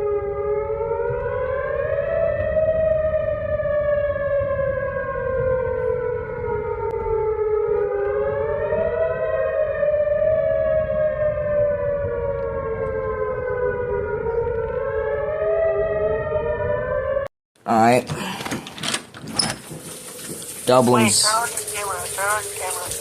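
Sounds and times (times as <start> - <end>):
warning sirens wailing: 0.0 - 17.3, 20.2 - 23.0.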